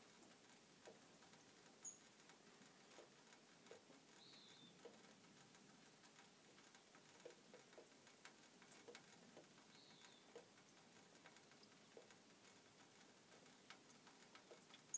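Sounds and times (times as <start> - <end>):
faint outdoor hiss: 0.0 - 14.9
light ticks: 0.0 - 14.9.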